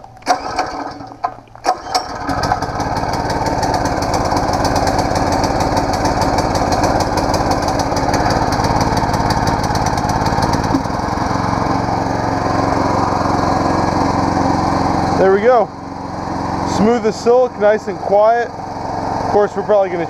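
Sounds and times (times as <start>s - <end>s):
small engine running: 0.2s - 20.0s.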